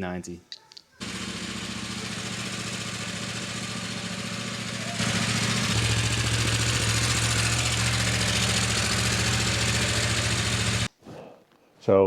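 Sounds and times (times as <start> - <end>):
motorcycle engine idling: 1.0 - 10.9.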